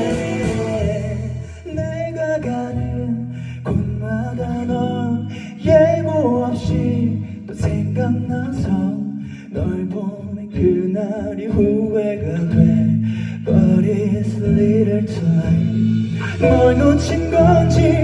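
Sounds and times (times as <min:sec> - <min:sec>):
instrumental backing track: 0:00.0 - 0:18.0
man singing a ballad: 0:00.0 - 0:18.0.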